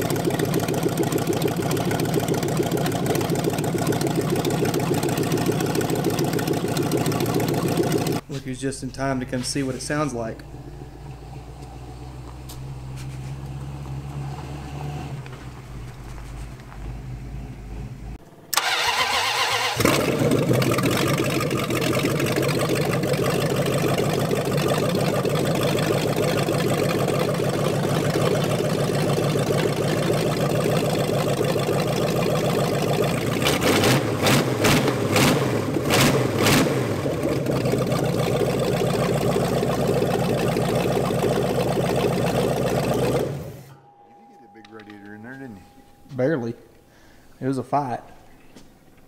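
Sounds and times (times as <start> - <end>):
car engine running and revving: 0.0 - 8.3, 9.4 - 18.2, 19.8 - 43.8
car engine cranking and starting: 0.0 - 44.1.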